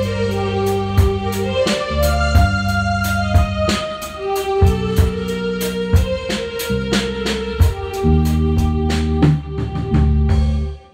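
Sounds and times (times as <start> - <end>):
bass guitar: 0.0 - 10.9
drum kit beat with cymbals: 0.0 - 10.9
sustained keyboard chords: 0.0 - 10.9.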